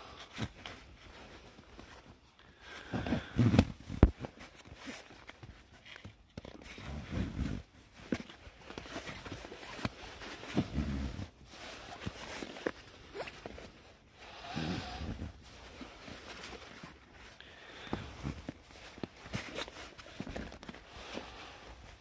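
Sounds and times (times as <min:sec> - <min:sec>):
fabric rustling: 0:00.0 - 0:22.0.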